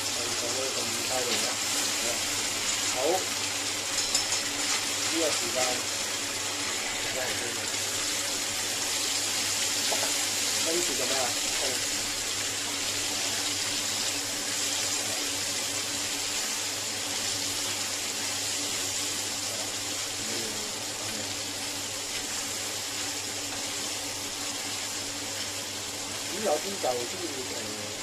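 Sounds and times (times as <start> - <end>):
low hum of gas burner: 0.0 - 28.0
steady cooking hiss: 0.0 - 28.0.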